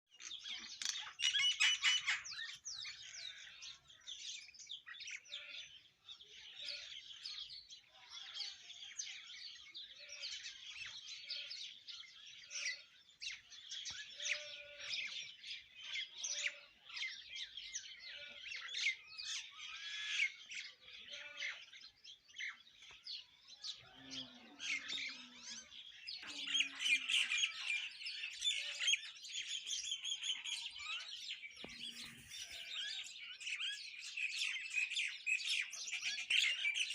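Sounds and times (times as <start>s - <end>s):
birds chirping and calling: 0.1s - 36.9s.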